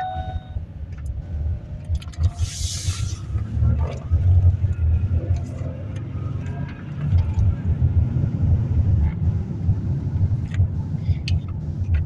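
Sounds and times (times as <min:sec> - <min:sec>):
in-cabin engine and road rumble: 0:00.0 - 0:12.0.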